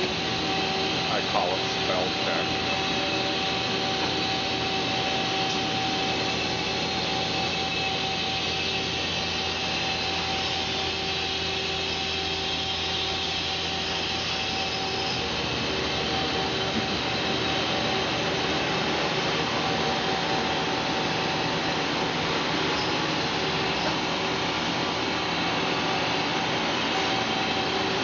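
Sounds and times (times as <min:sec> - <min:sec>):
lathe mechanical whir: 0:00.0 - 0:28.0
lathe whine: 0:00.0 - 0:28.0.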